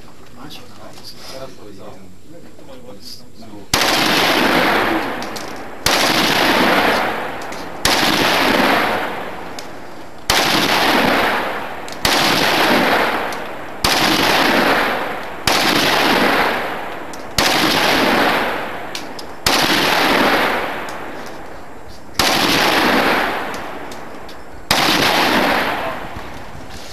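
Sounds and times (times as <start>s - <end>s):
rifle shots: 3.7s - 26.5s
ringing echo of gunshots: 3.7s - 26.5s.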